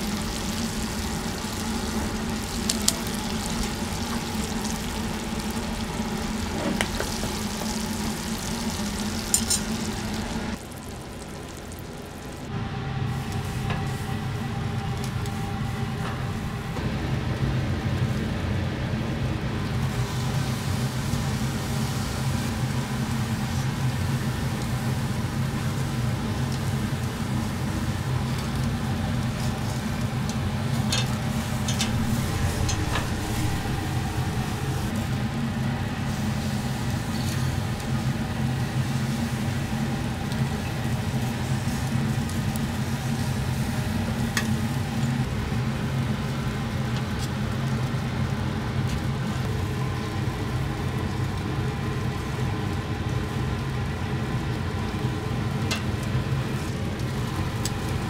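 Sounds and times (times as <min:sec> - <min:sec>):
food sizzling in a hot pan: 0:00.0 - 0:12.5, 0:19.7 - 0:58.0
low kitchen hum: 0:00.0 - 0:58.0.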